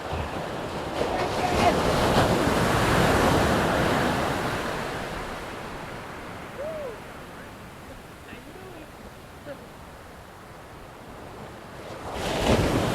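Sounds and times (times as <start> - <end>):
wave breaking and washing in: 0.0 - 12.9.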